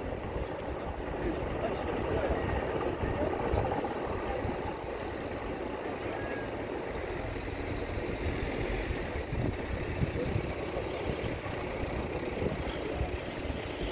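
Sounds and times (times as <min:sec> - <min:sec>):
helicopter engine and rotor: 0:00.0 - 0:13.9.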